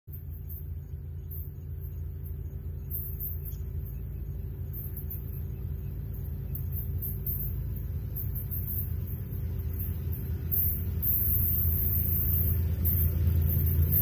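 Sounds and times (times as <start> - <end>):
diesel locomotives idling: 0.1 - 14.0.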